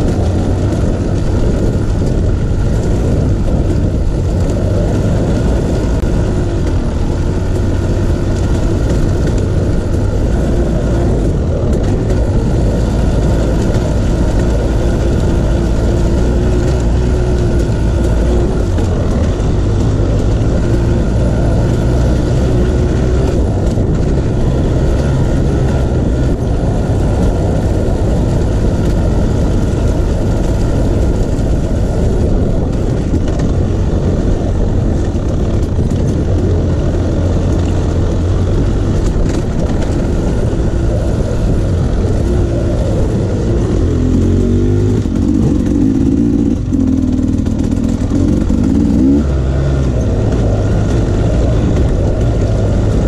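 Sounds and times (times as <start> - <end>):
off-road vehicle engine: 0.0 - 53.0
trail noise: 0.0 - 53.0
wind: 0.0 - 53.0.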